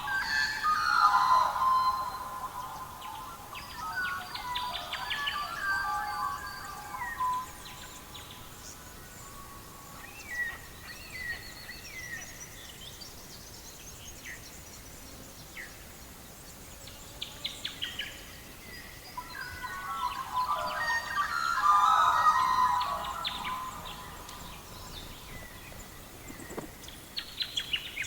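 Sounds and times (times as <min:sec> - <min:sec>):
faint steady hiss: 0:00.0 - 0:28.0
songbirds chirping: 0:00.0 - 0:28.0.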